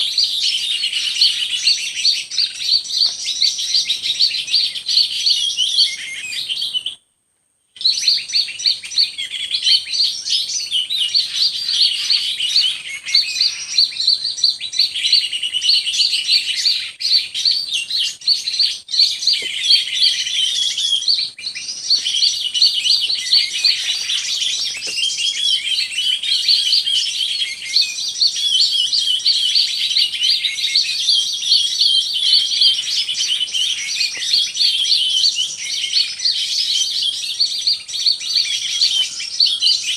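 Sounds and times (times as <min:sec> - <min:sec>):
songbird singing: 0:00.0 - 0:07.0, 0:07.7 - 0:39.9.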